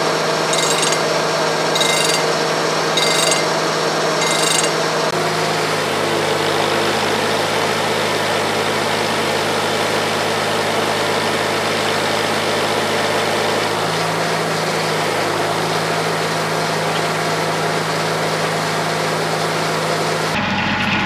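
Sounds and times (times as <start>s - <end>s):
bandsaw sawmill humming: 0.0s - 21.0s.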